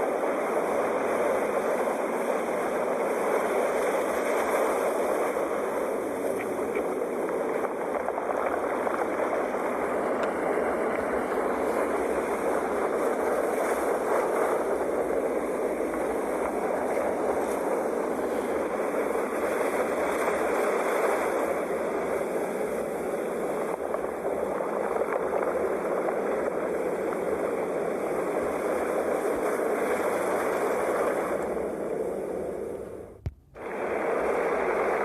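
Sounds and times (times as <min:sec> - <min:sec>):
sea waves washing: 0:00.0 - 0:35.0.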